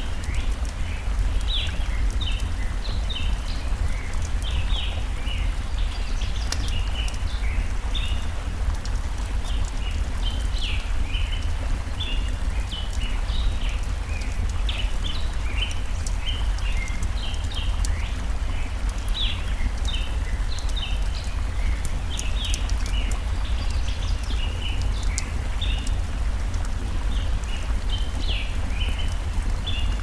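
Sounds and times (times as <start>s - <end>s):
flowing stream: 0.0s - 30.0s
wood fire crackling: 0.0s - 30.0s.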